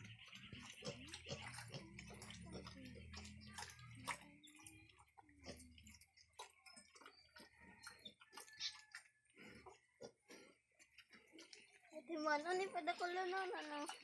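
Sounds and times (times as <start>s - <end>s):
piglets suckling wet clicks: 0.0s - 14.0s.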